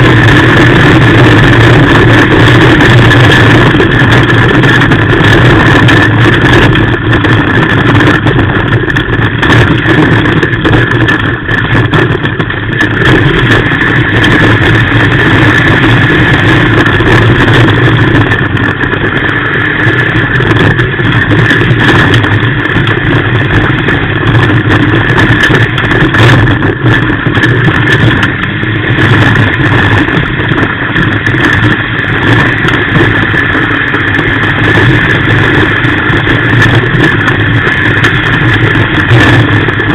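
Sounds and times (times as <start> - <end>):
rally car engine running hard: 0.0 - 39.9
road noise on dirt: 0.0 - 39.9.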